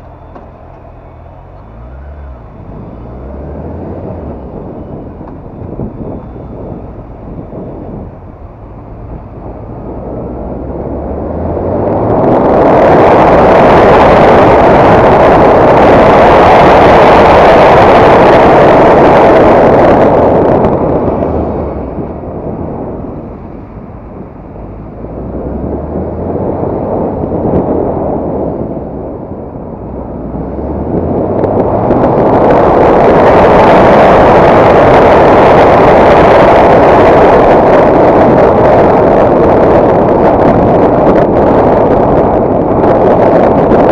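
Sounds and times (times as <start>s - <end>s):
motorcycle engine revving: 0.0s - 43.5s
wind noise on microphone: 0.0s - 43.9s.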